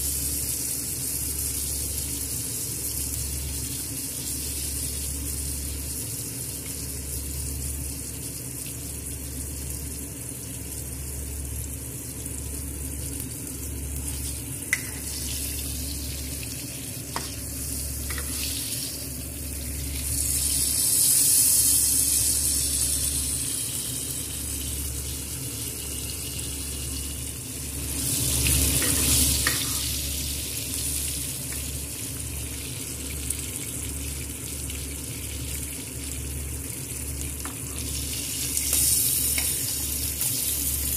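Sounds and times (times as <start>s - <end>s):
steak sizzling in oil: 0.0s - 9.6s, 12.2s - 40.9s.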